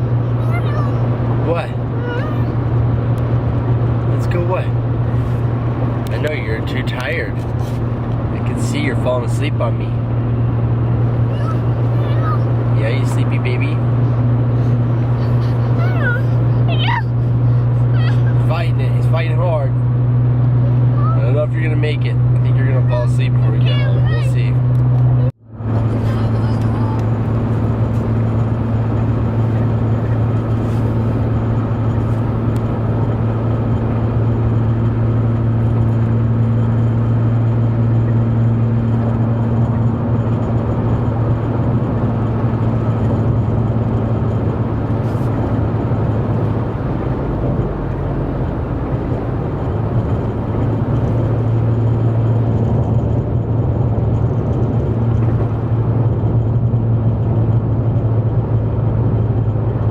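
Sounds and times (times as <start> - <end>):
truck engine and road hum: 0.0 - 59.9.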